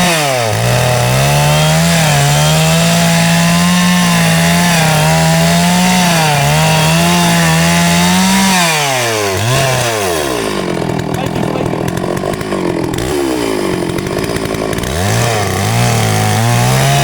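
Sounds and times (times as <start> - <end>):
chainsaw cutting into tree: 0.0 - 17.0.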